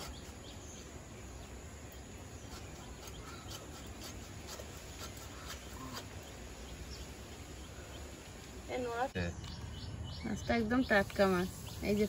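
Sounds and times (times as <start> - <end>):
farmyard birds calling: 0.0 - 12.0.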